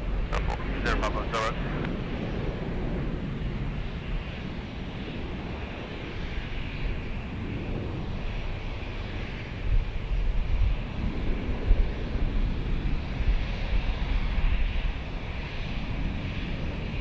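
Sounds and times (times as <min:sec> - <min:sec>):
jet engines at takeoff thrust: 0:00.0 - 0:17.0
wind buffeting microphone: 0:00.0 - 0:17.0.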